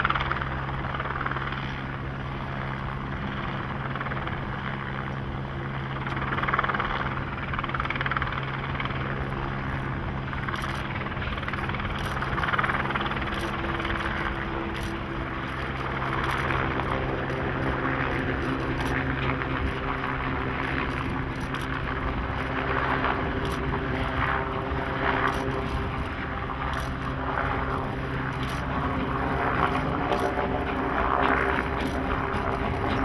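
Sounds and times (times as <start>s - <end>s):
steady low drone: 0.0s - 33.0s.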